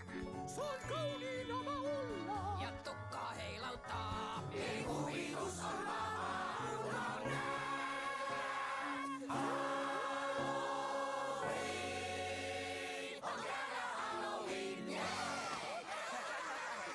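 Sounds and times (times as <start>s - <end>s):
musical backing: 0.0s - 15.7s
voices singing: 0.7s - 16.7s.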